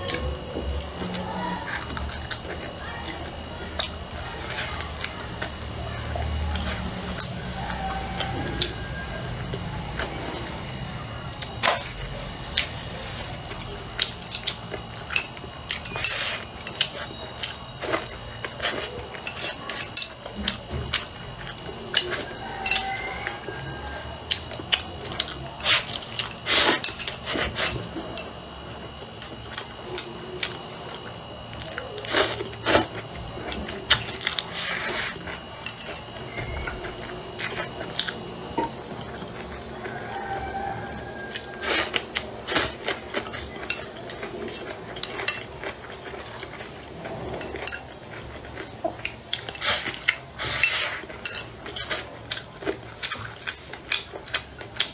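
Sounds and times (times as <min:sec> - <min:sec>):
close eating and chewing: 0:00.0 - 0:54.9.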